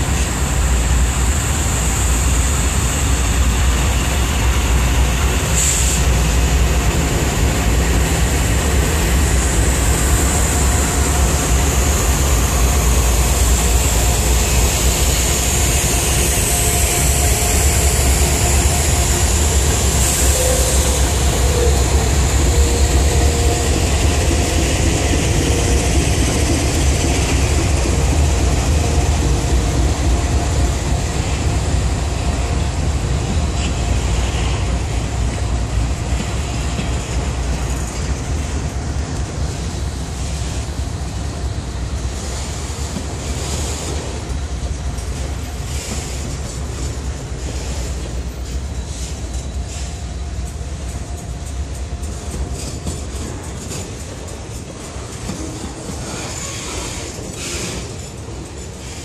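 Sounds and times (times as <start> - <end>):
diesel locomotives rumbling: 0.0 - 59.0
train wheels on rails: 0.0 - 59.0.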